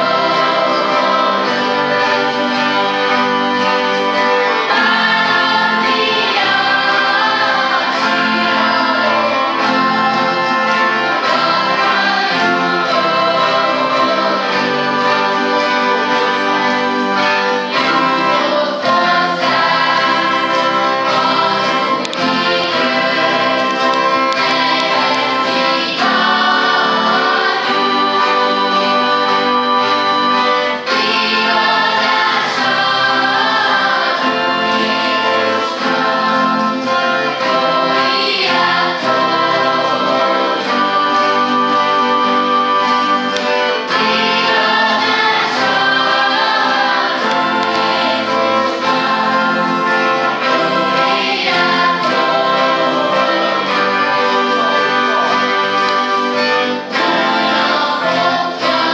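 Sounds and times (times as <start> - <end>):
acoustic guitars: 0.0 - 58.9
children's choir singing: 0.0 - 58.9
violins: 0.0 - 58.9.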